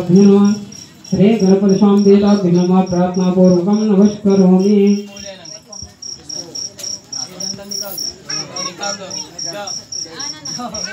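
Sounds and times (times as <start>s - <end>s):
cricket chirping: 0.0s - 10.9s
murmured voices: 0.0s - 10.9s.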